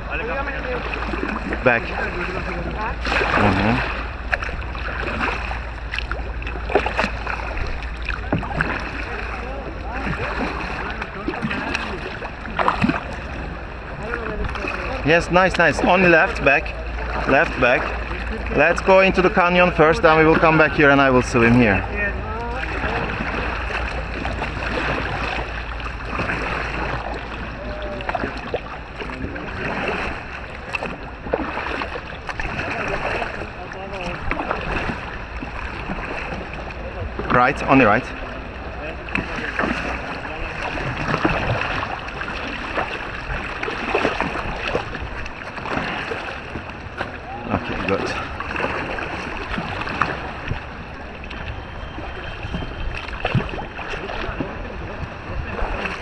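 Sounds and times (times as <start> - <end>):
paddle blades splashing: 0.0 - 56.0
water sloshing along hull: 0.0 - 56.0.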